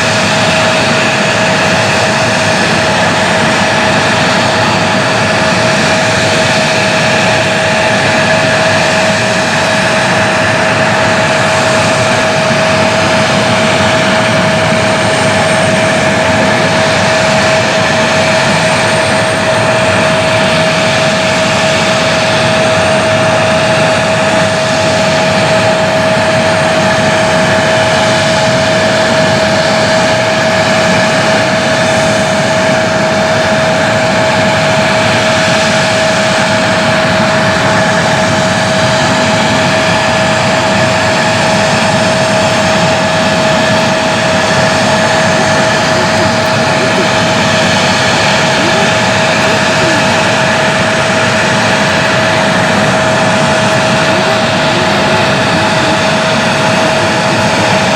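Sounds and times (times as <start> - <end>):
constant engine whine: 0.0 - 57.9
jet airliner engines running: 0.0 - 57.9.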